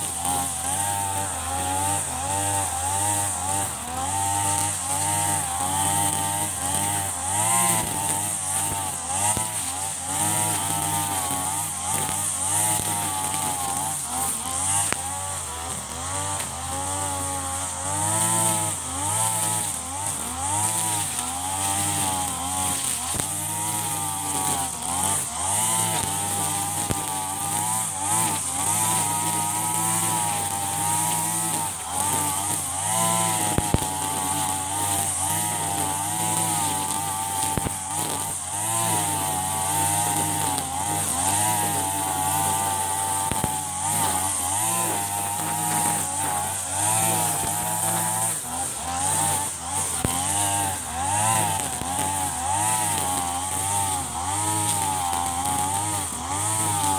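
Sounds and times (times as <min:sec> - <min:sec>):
brush cutter engine cutting grass: 0:00.0 - 0:56.9.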